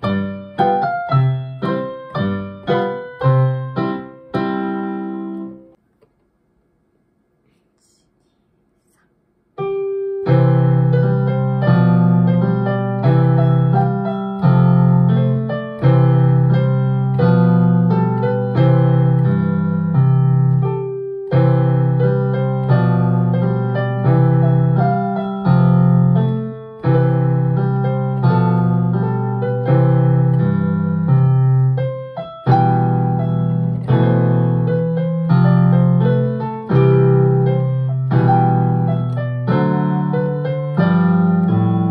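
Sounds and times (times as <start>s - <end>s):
piano duet: 0.0s - 5.8s, 9.6s - 41.9s.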